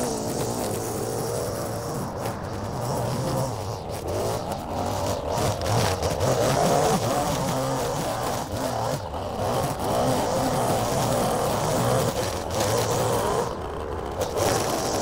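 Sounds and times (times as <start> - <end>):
string trimmer engine revving: 0.0 - 15.0
trimmer line cutting grass: 0.0 - 15.0.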